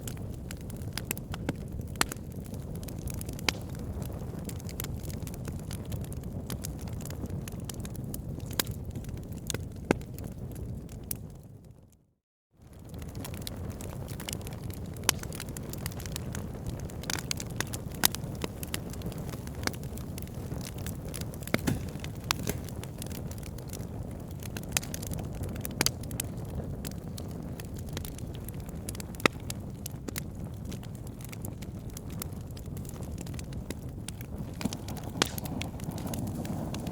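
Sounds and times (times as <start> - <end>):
wood fire crackling and popping: 0.0 - 11.4, 12.6 - 36.9.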